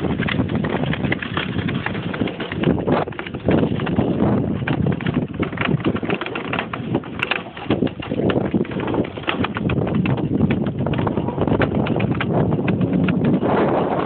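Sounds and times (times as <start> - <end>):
runners and frame clattering on ice: 0.0 - 14.0
wind buffeting the microphone: 0.0 - 14.0.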